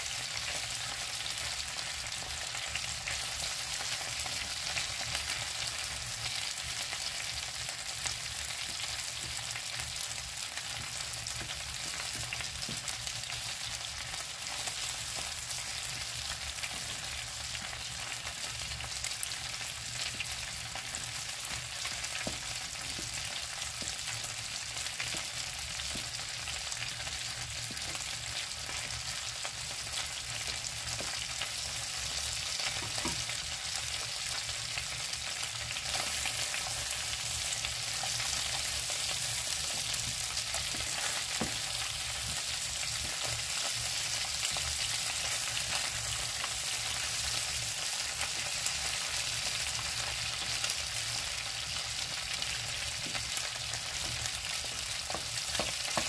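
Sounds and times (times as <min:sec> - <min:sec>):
chicken wings sizzling in oil: 0:00.0 - 0:56.0.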